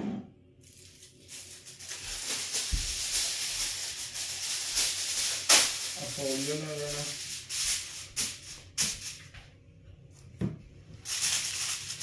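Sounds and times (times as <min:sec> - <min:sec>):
aluminium foil crinkling: 0:00.6 - 0:09.3, 0:11.0 - 0:12.0.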